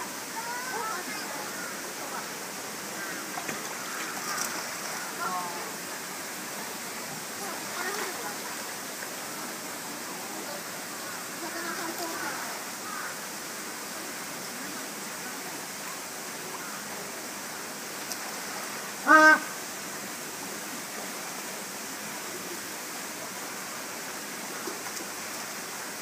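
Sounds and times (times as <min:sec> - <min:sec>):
running water: 0:00.0 - 0:26.0.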